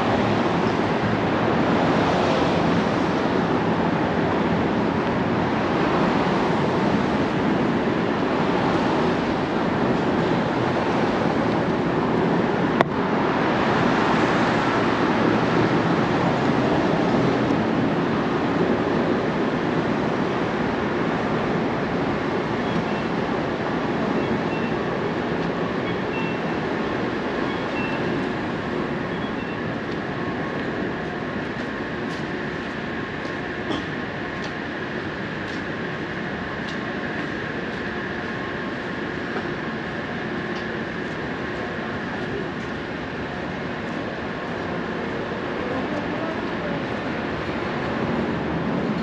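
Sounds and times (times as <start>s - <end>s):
city street and construction noise: 0.0s - 49.0s.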